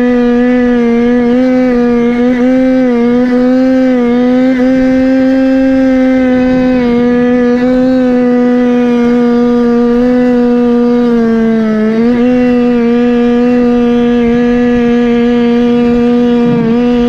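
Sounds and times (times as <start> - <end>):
scooter two-stroke engine revving: 0.0 - 17.0.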